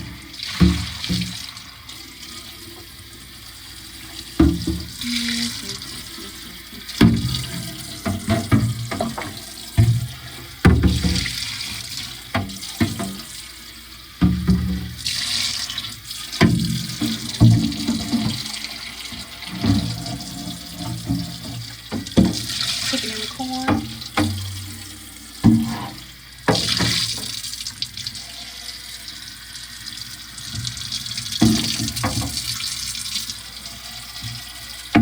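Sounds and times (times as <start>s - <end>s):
water running from tap into sink: 0.0s - 35.0s.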